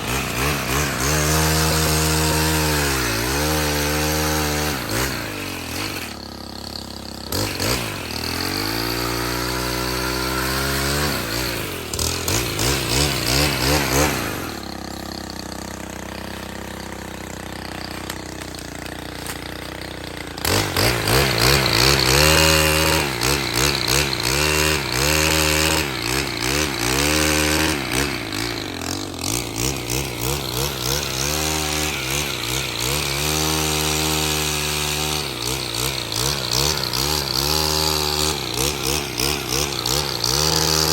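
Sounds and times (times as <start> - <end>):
pole saw engine revving: 0.0 - 40.9.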